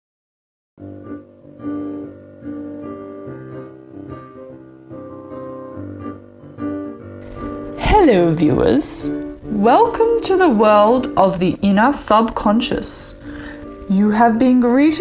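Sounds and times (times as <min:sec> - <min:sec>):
instrumental background music: 0:00.8 - 0:15.0.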